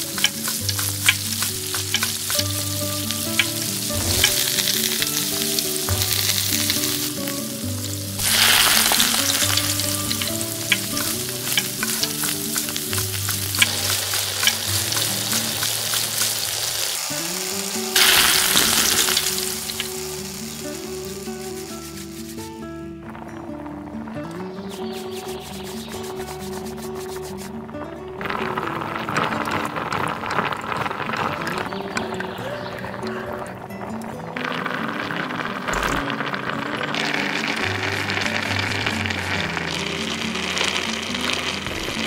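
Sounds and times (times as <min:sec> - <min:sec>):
masala sizzling in pan: 0:00.0 - 0:42.0.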